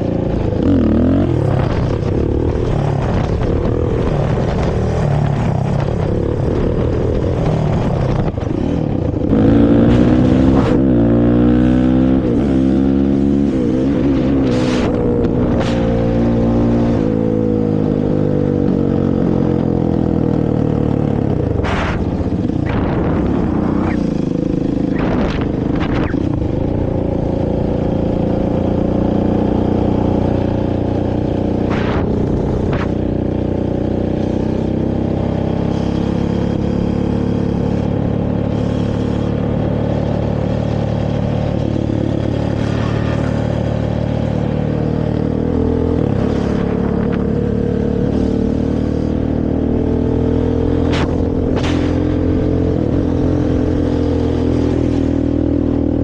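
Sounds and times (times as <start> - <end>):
quad engine revving: 0.0 - 5.8, 7.3 - 17.2, 18.5 - 55.0.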